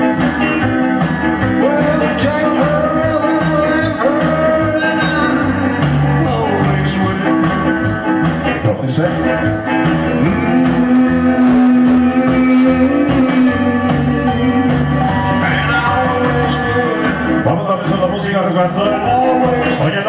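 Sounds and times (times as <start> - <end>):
loud music with guitar and singing: 0.0 - 20.0.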